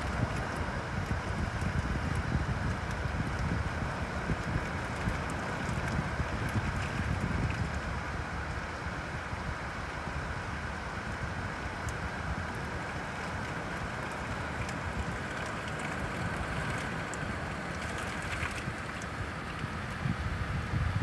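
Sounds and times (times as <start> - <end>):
raindrops ticking: 0.0 - 8.0, 11.0 - 20.0
steady rain hiss: 0.0 - 21.0
wind rumble on microphone: 0.0 - 21.0.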